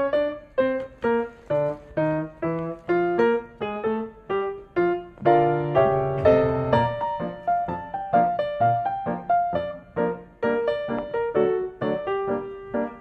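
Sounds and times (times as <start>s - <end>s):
light piano melody: 0.0s - 13.0s.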